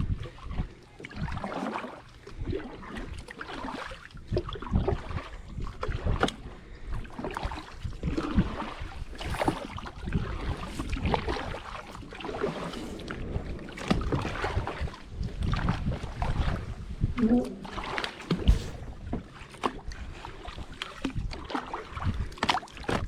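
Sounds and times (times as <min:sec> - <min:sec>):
paddle splashing water: 0:00.0 - 0:23.0.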